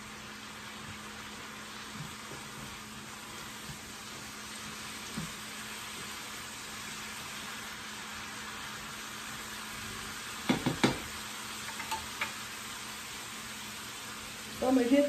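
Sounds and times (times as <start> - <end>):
meat and vegetables sizzling: 0.0 - 15.0.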